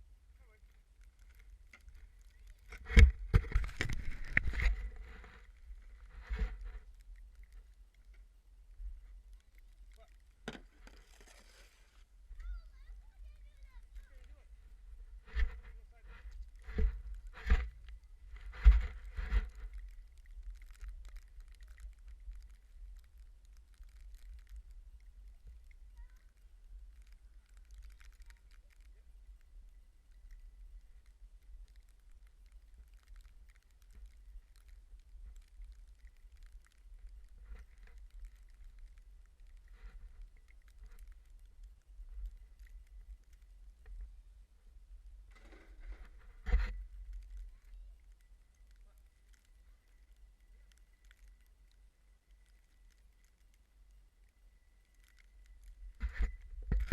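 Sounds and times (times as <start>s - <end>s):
faint crackles: 0.0s - 56.9s.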